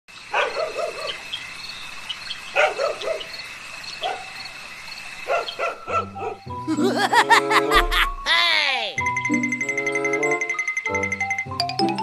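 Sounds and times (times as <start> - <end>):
insects trilling: 0.1 - 11.5.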